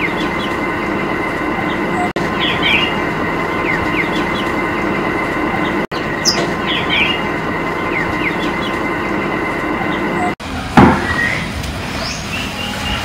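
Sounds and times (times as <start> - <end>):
birds chirping: 0.0 - 10.4, 11.0 - 13.0
mechanical drone: 0.0 - 13.0.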